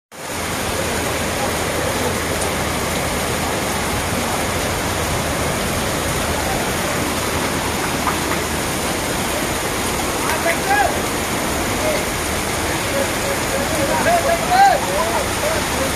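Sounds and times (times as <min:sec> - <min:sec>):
heavy rain pouring: 0:00.1 - 0:15.9.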